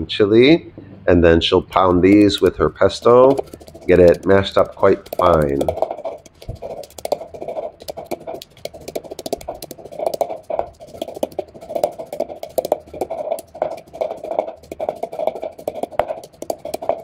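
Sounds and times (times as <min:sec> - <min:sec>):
wooden pestle pounding in mortar: 0:01.7 - 0:17.0.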